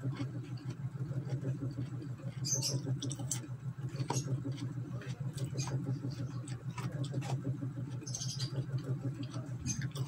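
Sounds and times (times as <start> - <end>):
close-up chewing and mouth-smacking: 0.0 - 10.0
steady low hum: 0.0 - 10.0.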